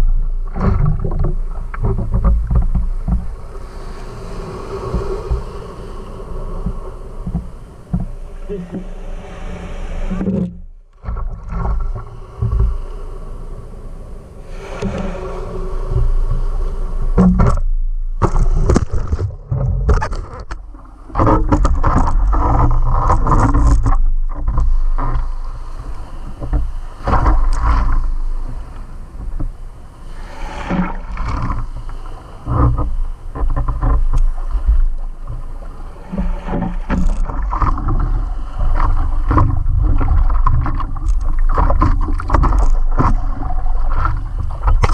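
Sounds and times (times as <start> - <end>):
low rumbling of water: 0.0 - 44.9.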